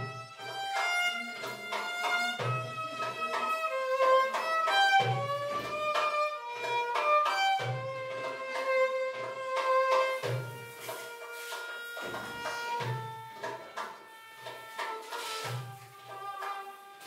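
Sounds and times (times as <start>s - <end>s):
violin playing slow melody: 0.0s - 17.0s.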